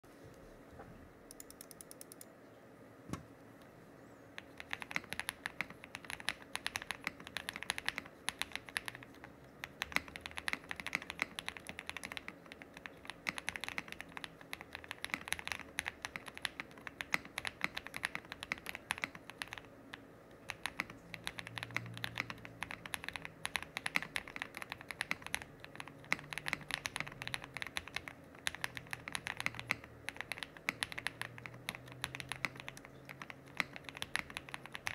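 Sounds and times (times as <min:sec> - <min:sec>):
mechanical keyboard typing: 0:01.3 - 0:02.3, 0:04.4 - 0:34.9.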